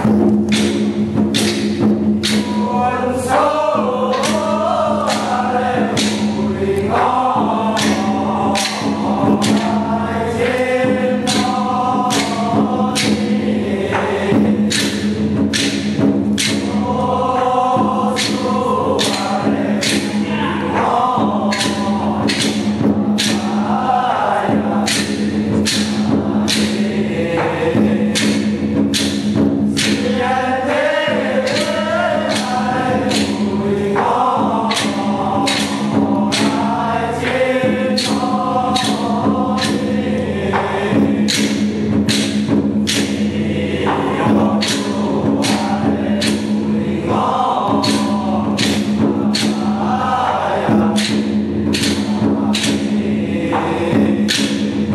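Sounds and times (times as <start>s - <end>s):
sharp percussion knocks: 0.0s - 54.9s
voices chanting in unison: 0.0s - 54.9s.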